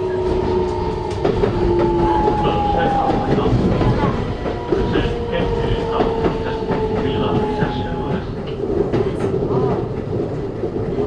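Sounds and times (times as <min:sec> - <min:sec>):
wheel-on-rail rumble: 0:00.0 - 0:11.0.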